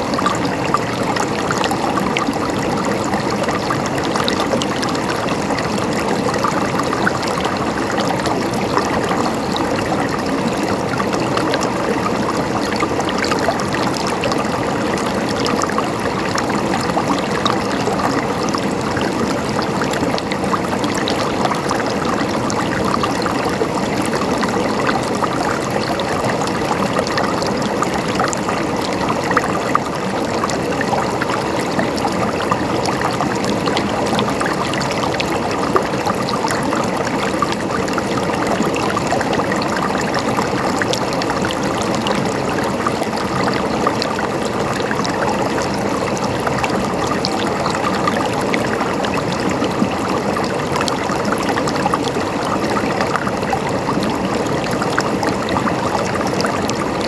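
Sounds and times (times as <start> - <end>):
stream gurgling over rocks: 0.0 - 57.0.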